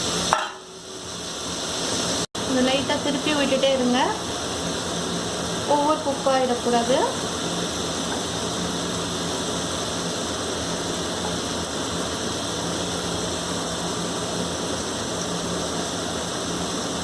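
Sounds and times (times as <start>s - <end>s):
cheese sizzling in a pan: 0.0s - 17.0s.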